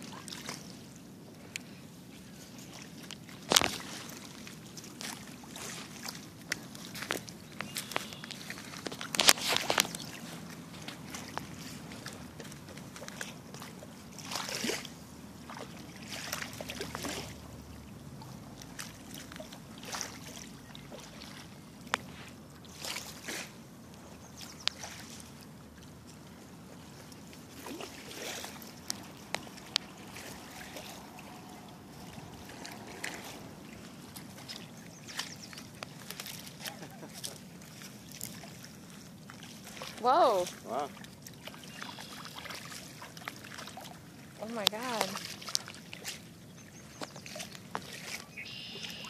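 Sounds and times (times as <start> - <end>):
water splashing on rocky shore: 2.7 - 23.6, 27.3 - 46.2.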